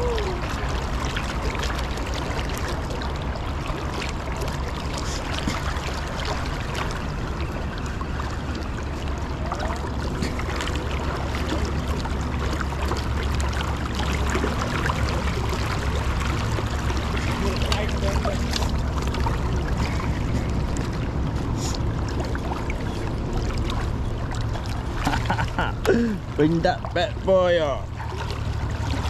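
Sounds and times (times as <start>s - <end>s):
small splashes and trickles: 0.0s - 29.0s.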